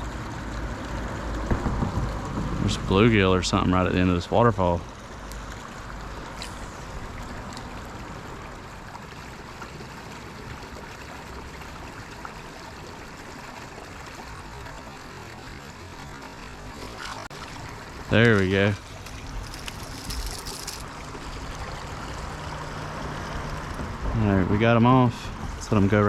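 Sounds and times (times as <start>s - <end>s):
creek water over small waterfall: 0.0s - 26.0s.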